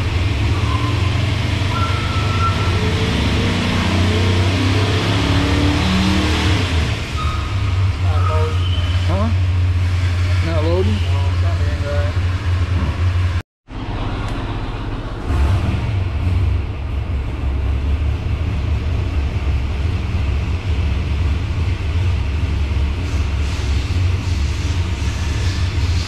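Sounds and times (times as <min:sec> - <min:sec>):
engine running on dyno: 0:00.0 - 0:08.2, 0:09.2 - 0:26.0.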